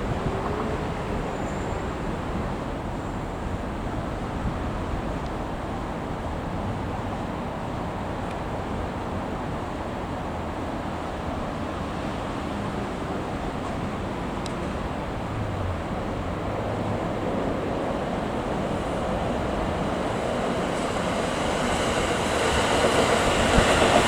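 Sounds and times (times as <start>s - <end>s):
rail traffic rumble and hiss: 0.0s - 24.0s.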